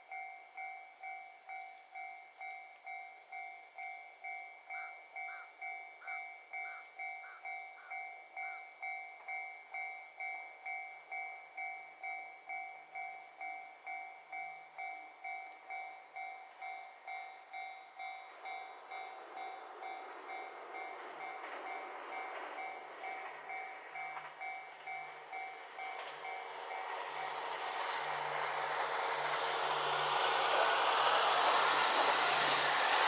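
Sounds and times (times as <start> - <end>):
approaching train rumble: 0.0 - 33.0.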